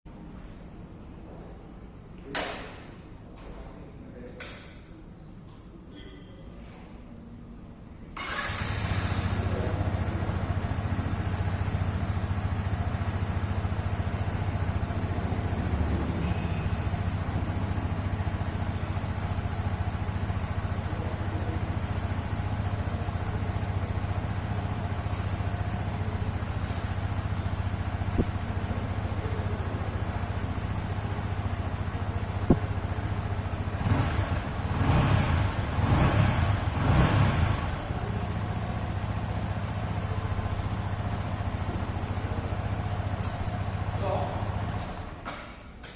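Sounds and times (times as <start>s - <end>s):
motorcycle engine idling and revving: 8.2s - 45.9s.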